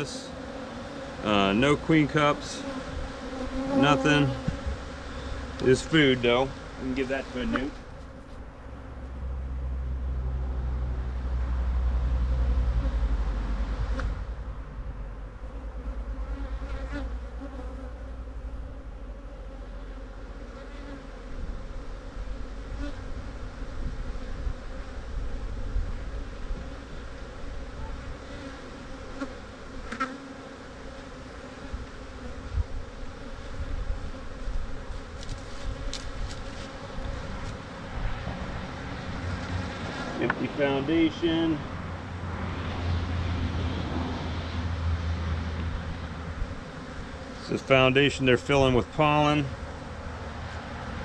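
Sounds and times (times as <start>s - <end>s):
bees buzzing: 0.0s - 10.4s, 12.5s - 51.0s.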